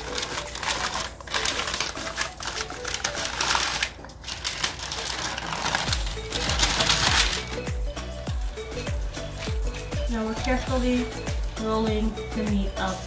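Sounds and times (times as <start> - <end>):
parchment paper crinkling: 0.0 - 11.8.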